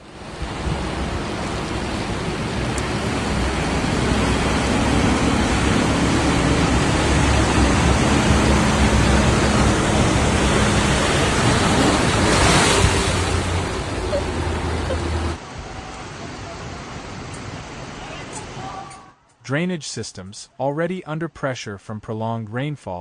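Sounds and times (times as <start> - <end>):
rushing water: 0.0 - 19.2.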